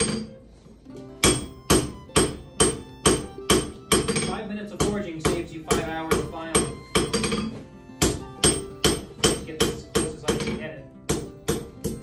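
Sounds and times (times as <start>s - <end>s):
hammer striking iron on anvil: 0.0s - 0.3s, 1.2s - 12.0s.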